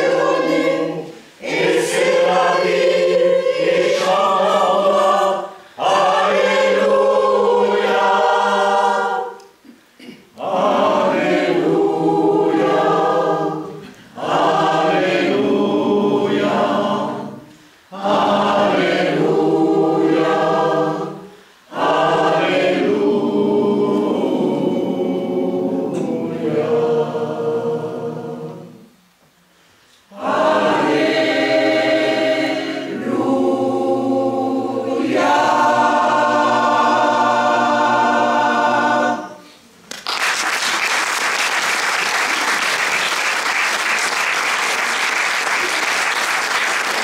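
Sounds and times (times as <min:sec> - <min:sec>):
mixed choir singing unaccompanied: 0:00.0 - 0:29.0, 0:30.1 - 0:39.7.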